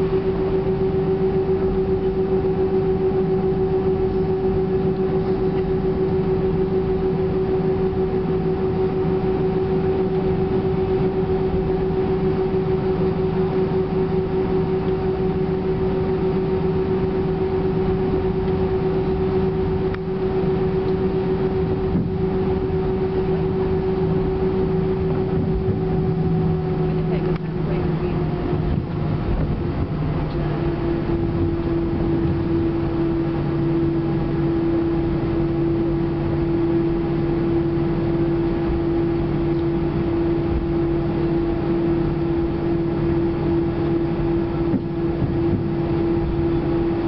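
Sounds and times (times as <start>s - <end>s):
jet engines humming inside cabin: 0.0s - 47.0s.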